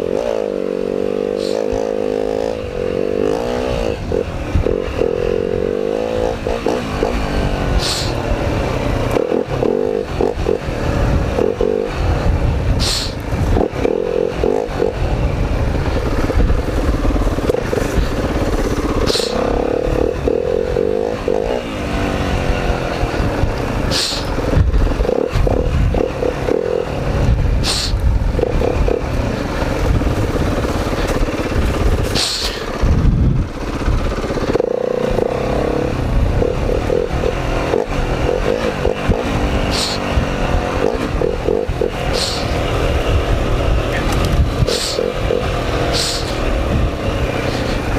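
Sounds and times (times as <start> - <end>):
dirt bike engine revving: 0.0 - 47.9
clatter over rough ground: 0.1 - 47.9.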